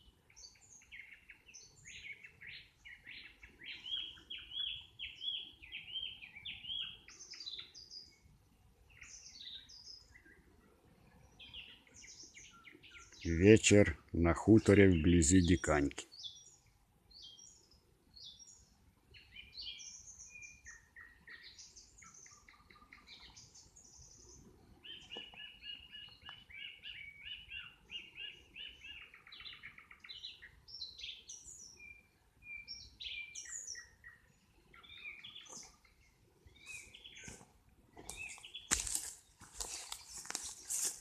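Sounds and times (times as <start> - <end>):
nightingale singing: 0.0 - 10.5, 11.1 - 41.0.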